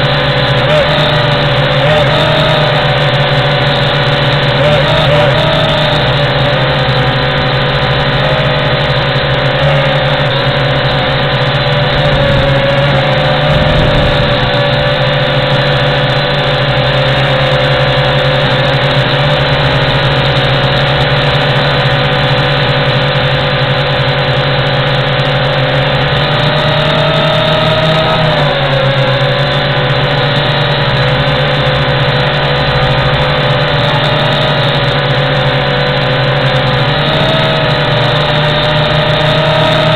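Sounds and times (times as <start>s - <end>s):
quadcopter motors whirring: 0.0s - 39.9s.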